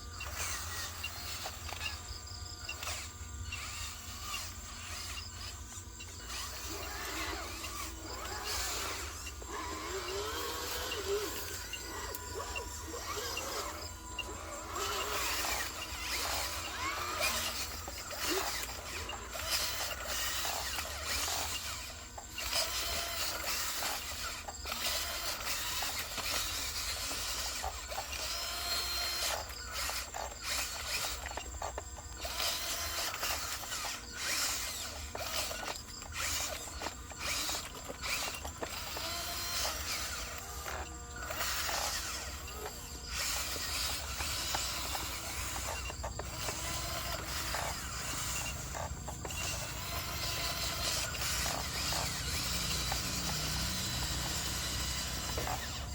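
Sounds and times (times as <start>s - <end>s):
model truck motors whirring: 0.0s - 55.9s.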